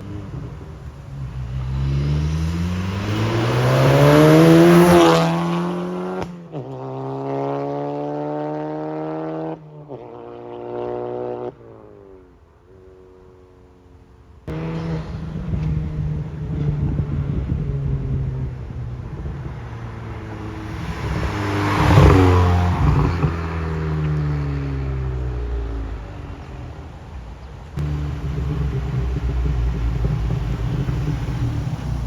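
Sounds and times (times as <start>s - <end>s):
car engine accelerating: 0.0s - 11.6s, 14.4s - 32.0s.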